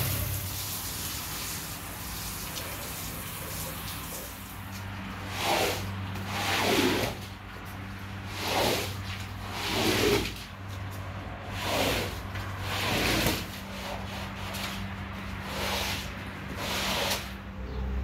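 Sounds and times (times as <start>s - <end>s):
squeegee scraping wet rug: 0.0s - 17.5s.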